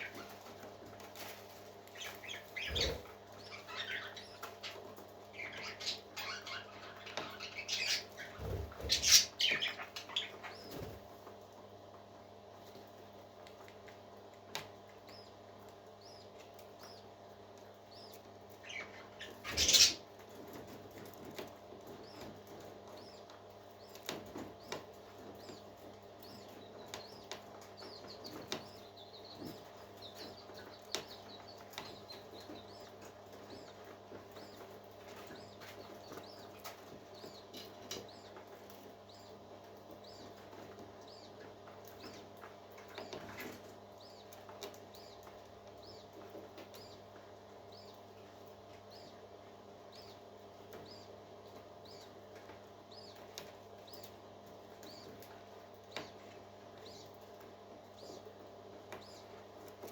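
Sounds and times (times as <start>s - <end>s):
parrot chick peeping: 0.0s - 11.7s, 12.5s - 59.9s.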